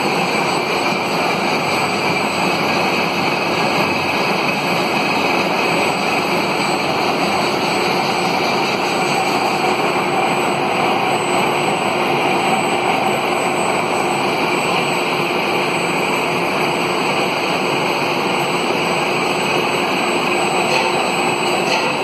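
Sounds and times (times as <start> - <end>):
machine running noise: 0.0 - 22.0.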